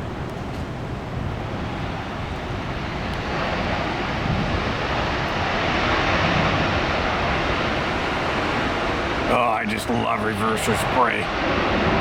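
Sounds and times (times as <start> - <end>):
jet airliner engines landing: 0.0 - 12.0.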